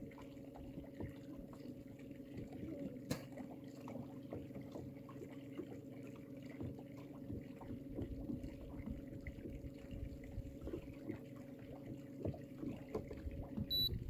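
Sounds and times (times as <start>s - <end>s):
boat motor humming: 0.0s - 14.0s
water lapping against boat hull: 0.0s - 14.0s.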